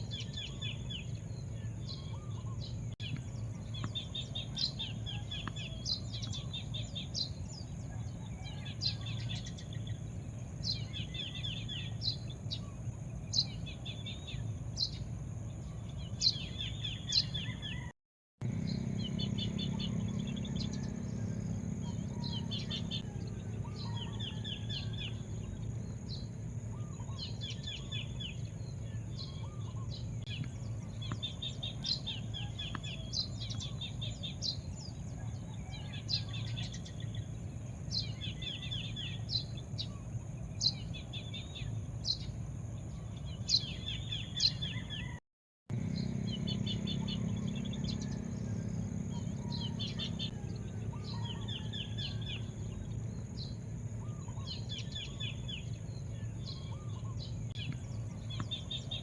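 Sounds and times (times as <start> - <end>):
low outdoor rumble: 0.0 - 59.0
small birds chirping: 0.0 - 59.0.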